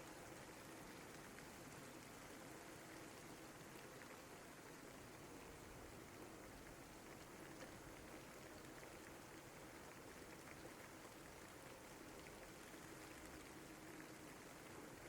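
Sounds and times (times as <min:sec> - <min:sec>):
faint rain patter: 0:00.0 - 0:15.0.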